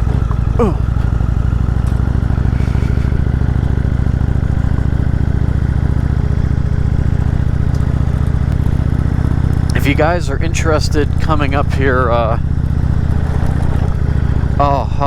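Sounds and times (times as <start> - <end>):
gravel clatter: 0.0 - 15.0
motorcycle engine running: 0.0 - 15.0.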